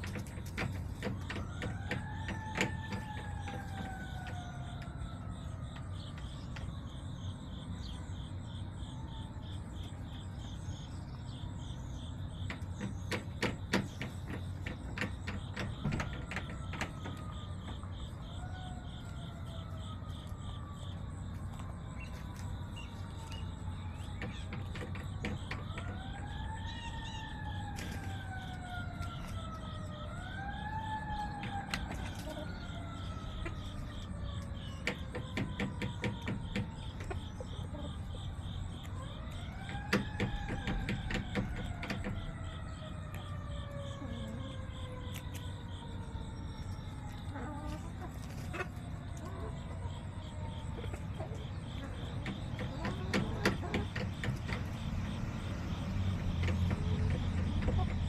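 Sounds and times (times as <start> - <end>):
emergency siren wailing: 0.0 - 58.0.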